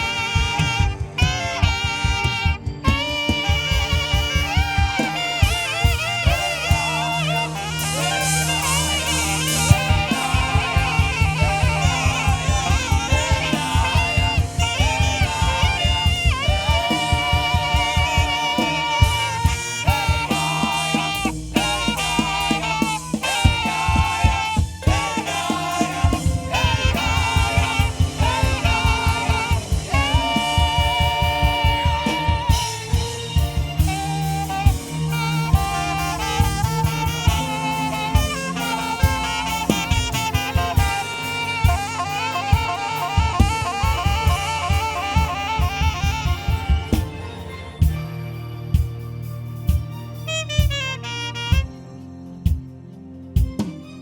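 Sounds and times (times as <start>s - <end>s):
steady drum beat: 0.0s - 51.8s, 53.4s - 54.0s
saxophone melody with vibrato: 0.0s - 52.7s.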